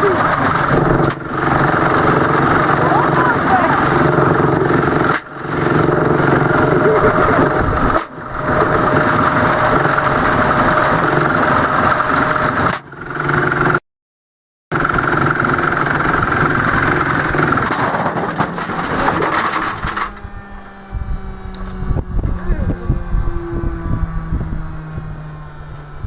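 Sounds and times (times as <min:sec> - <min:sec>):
washing machine rumble and whine: 0:00.0 - 0:13.4, 0:14.8 - 0:26.0.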